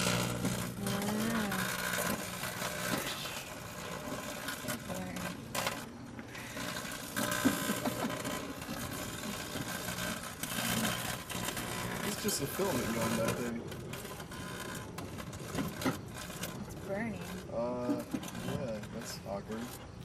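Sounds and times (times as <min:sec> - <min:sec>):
microwave oven humming: 0:00.0 - 0:18.0
crackling light bulb filament: 0:00.0 - 0:19.2.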